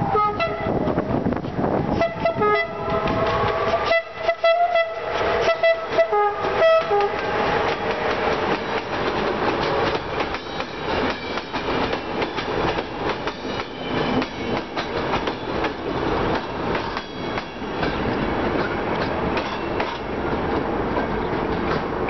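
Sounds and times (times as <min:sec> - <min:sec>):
train wheels clicking over rail joints: 0:00.9 - 0:22.0.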